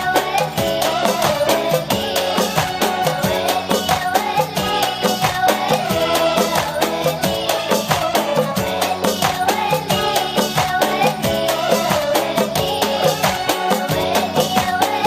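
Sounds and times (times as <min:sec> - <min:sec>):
fast drum beat: 0:00.0 - 0:15.0
girl singing: 0:00.0 - 0:15.0.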